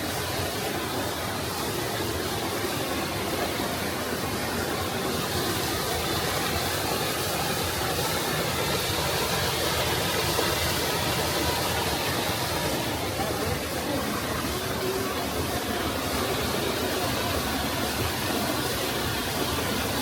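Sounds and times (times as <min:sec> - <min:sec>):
large waterfall rushing: 0:00.0 - 0:20.0.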